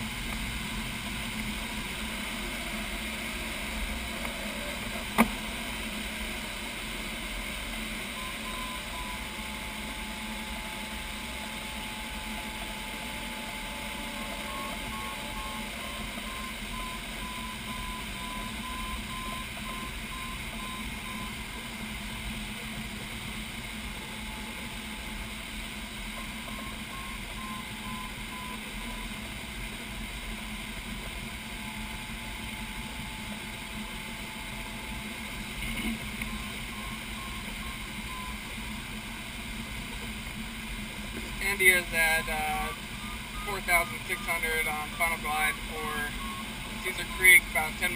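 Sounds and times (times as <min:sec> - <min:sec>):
electronic variometer beeping: 0:00.0 - 0:47.9.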